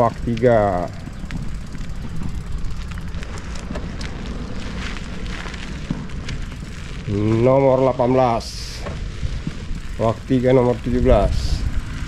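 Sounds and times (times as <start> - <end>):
tyre and wind rumble: 0.0 - 12.0.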